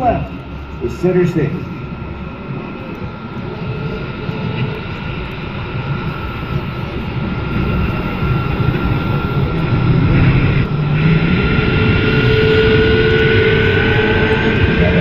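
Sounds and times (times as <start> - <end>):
aircraft engine whine: 0.0 - 15.0
low engine tone: 0.0 - 15.0.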